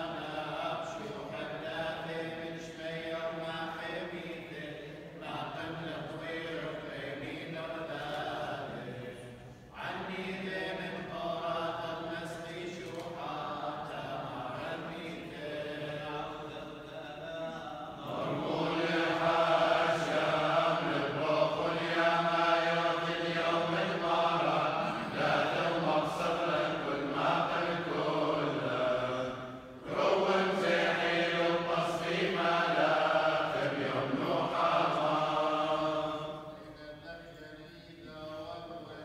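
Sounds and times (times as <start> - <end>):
men chanting prayers: 0.0 - 39.0.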